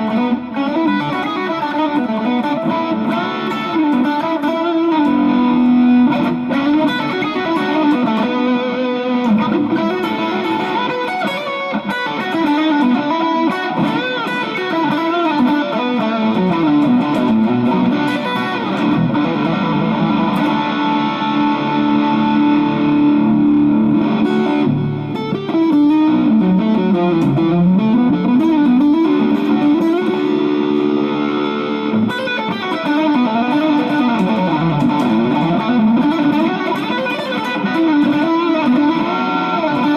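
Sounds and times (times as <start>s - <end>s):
electric guitar with string bends: 0.0s - 39.9s.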